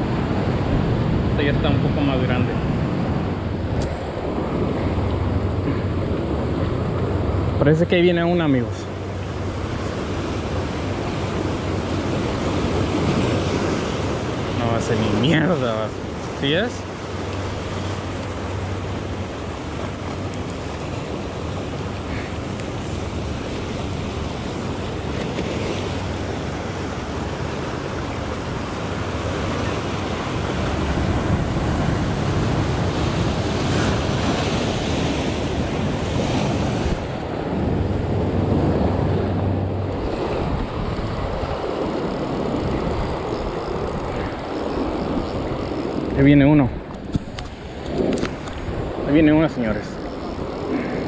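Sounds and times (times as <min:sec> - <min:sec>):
surf washing over rocks: 0:00.0 - 0:51.0
wind rumbling on microphone: 0:00.0 - 0:51.0.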